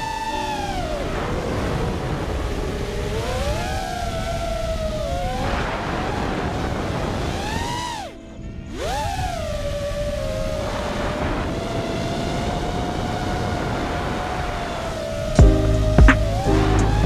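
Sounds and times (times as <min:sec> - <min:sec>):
drone motors whining: 0:00.0 - 0:17.0
wind on microphone: 0:00.0 - 0:17.0.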